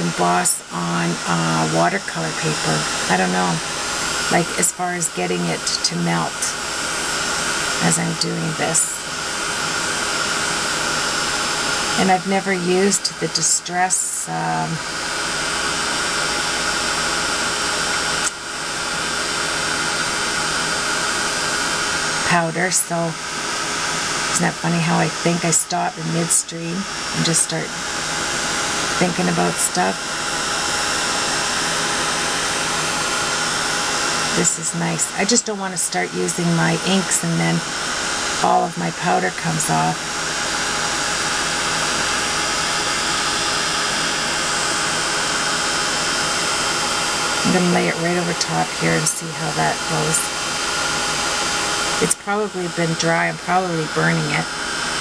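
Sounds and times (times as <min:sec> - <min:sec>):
heat tool blowing hot air: 0:00.0 - 0:55.0.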